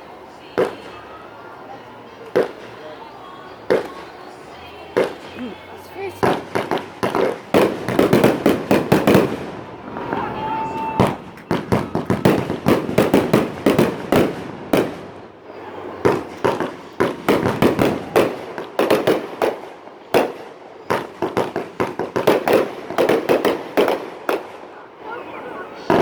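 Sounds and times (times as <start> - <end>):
fireworks bursting and cracking: 0.0 - 26.0.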